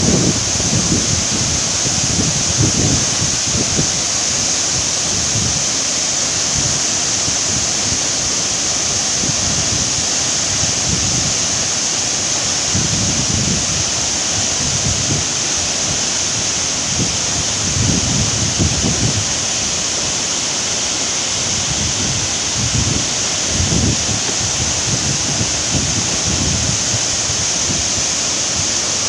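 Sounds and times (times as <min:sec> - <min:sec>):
wind buffeting microphone: 0:00.0 - 0:05.8, 0:08.9 - 0:29.0
waterfall rushing: 0:00.0 - 0:29.0.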